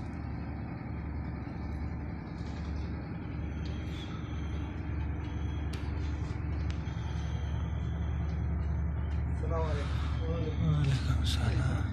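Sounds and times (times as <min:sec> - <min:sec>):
low machine hum: 0:00.0 - 0:11.9.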